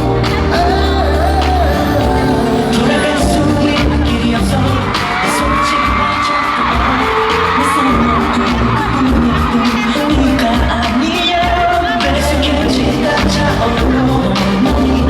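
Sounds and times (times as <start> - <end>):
audience whooping and screaming: 0.0 - 12.2
backing track with drum hits: 0.0 - 15.0
man singing pop song live: 0.0 - 15.0.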